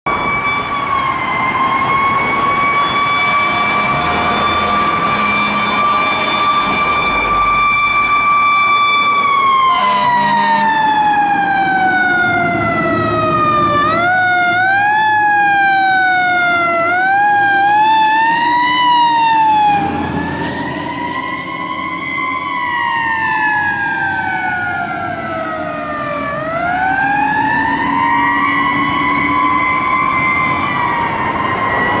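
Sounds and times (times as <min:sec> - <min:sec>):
fire engine siren: 0:00.0 - 0:32.0.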